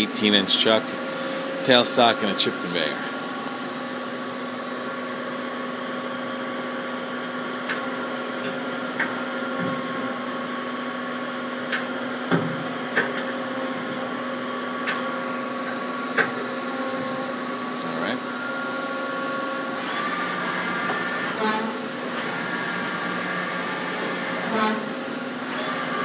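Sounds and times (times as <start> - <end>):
lathe humming at idle: 0.0 - 26.0.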